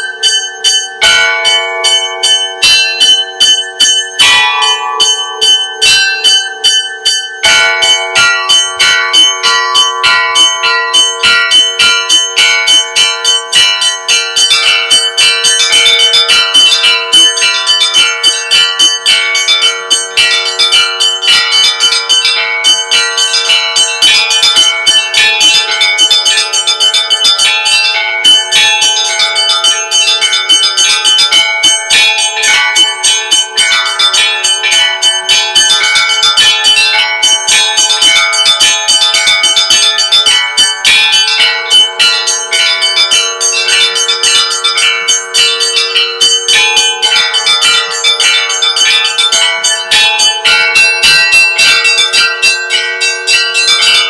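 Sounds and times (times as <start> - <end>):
large bell hum: 0.0 - 54.0
small bells chiming: 0.0 - 54.0.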